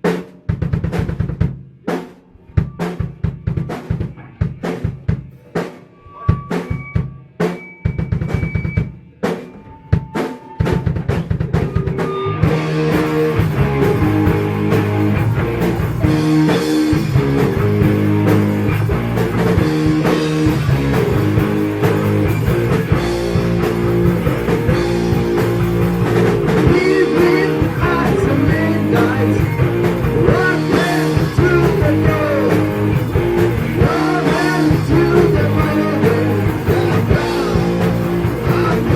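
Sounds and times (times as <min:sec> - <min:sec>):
heavy metal band playing: 0:00.0 - 0:38.9.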